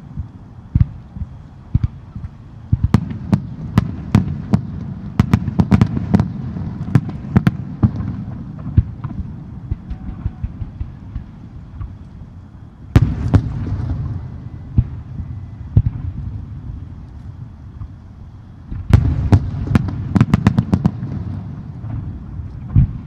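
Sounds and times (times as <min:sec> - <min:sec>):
fireworks bangs: 0:00.0 - 0:12.3, 0:12.9 - 0:23.0.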